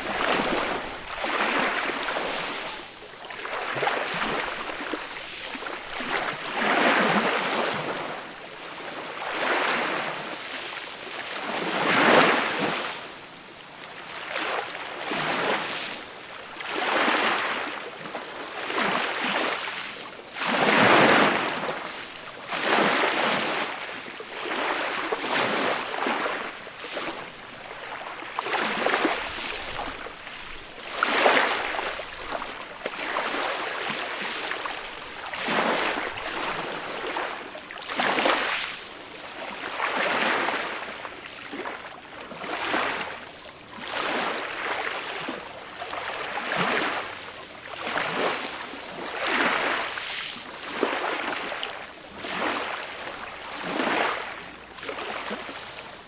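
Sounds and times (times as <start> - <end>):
gentle sea waves on shore: 0.0 - 56.0.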